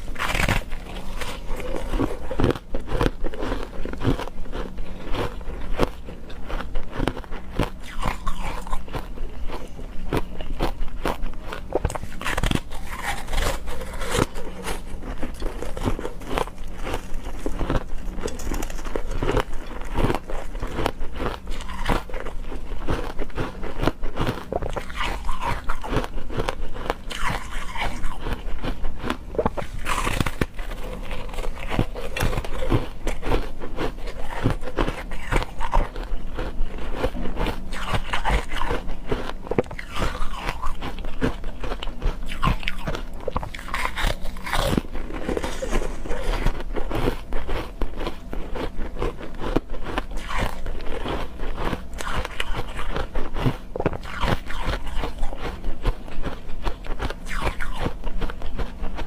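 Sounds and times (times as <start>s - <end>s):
ice being chewed: 0.0s - 59.0s.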